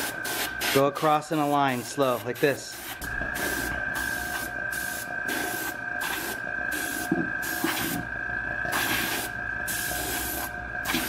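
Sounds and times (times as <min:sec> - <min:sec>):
airbrush hissing in spurts: 0:00.0 - 0:08.0, 0:08.7 - 0:11.0
steady high whine: 0:00.0 - 0:11.0.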